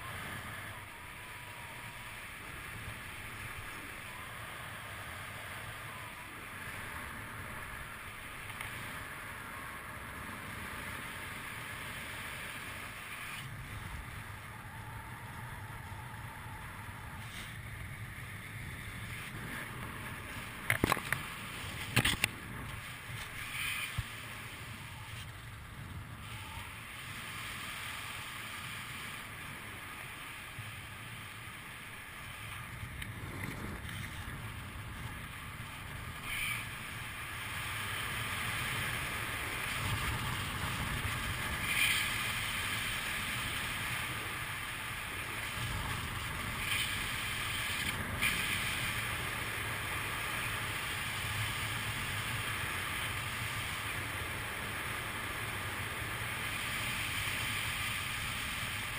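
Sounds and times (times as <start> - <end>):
wind rushing over microphone: 0.0 - 58.9.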